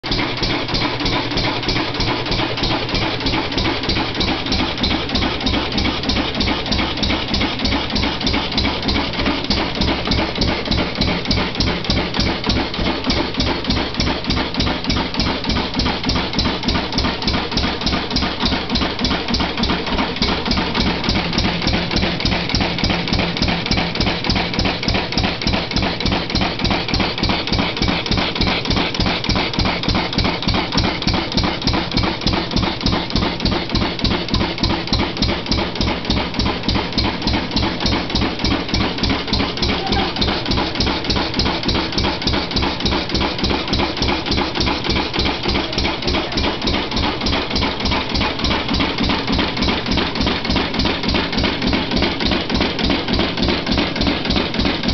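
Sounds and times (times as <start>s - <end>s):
stationary gas engine running: 0.0s - 54.9s.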